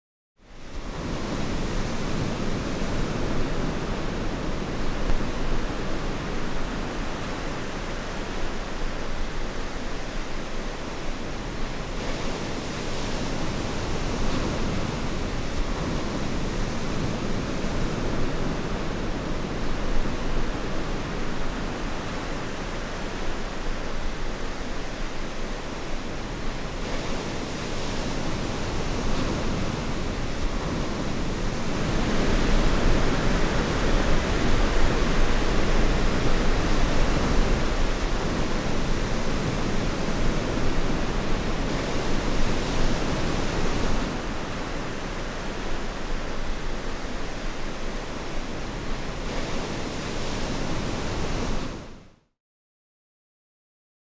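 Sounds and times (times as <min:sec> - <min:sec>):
ocean waves breaking: 0:00.7 - 0:52.0.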